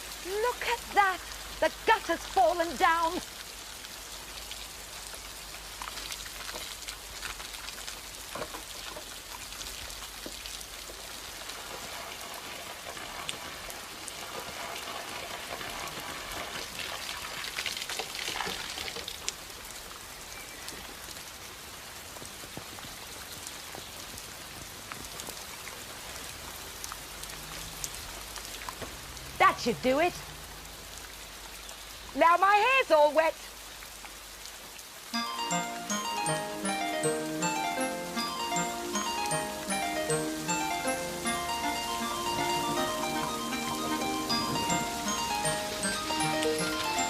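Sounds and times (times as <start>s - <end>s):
rain pattering: 0.0s - 47.0s.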